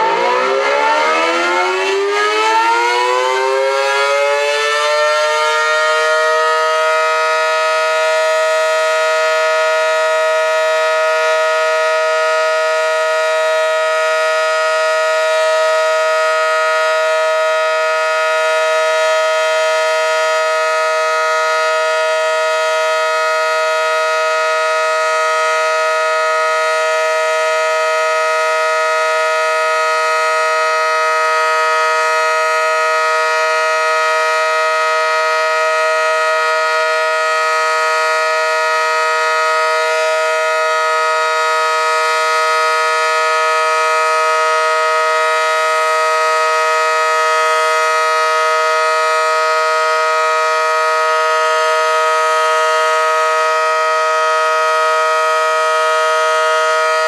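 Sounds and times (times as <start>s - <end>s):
warning siren steady tone: 0.0s - 57.0s.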